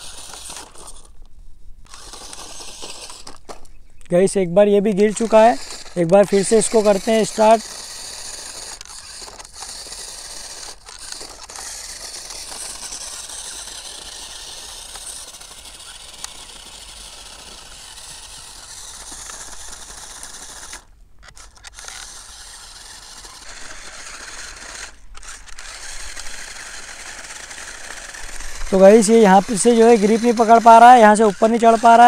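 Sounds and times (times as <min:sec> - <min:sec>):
tyres scrabbling on dirt: 0:00.0 - 0:01.2, 0:01.9 - 0:32.0
toy electric motor whirring: 0:00.0 - 0:32.0.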